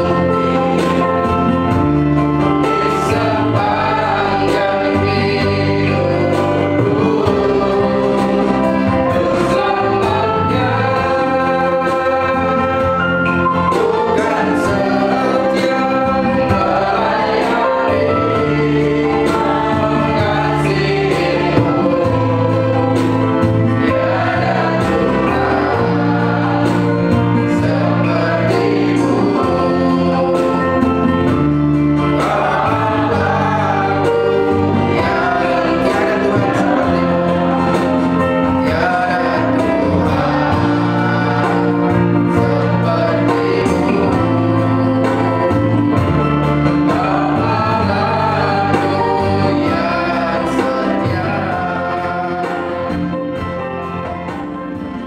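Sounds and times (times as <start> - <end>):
held instrumental chords: 0.0 - 55.0
voices singing worship song: 0.0 - 55.0.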